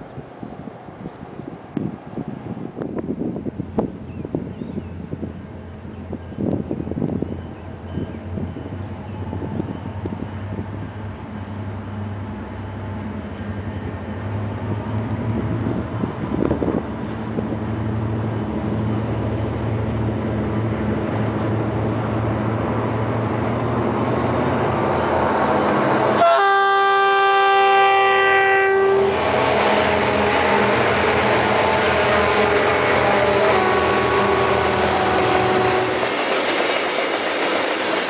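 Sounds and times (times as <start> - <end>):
diesel locomotive engines: 0.0 - 38.0.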